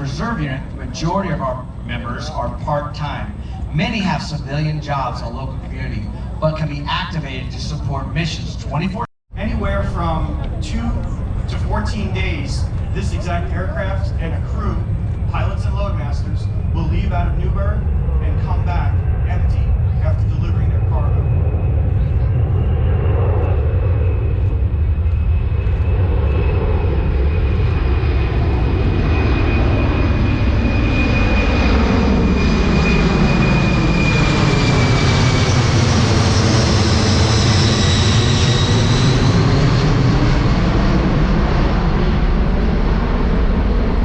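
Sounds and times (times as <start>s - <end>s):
jet aircraft rumbling overhead: 0.0s - 44.0s
turbine whine: 0.0s - 44.0s.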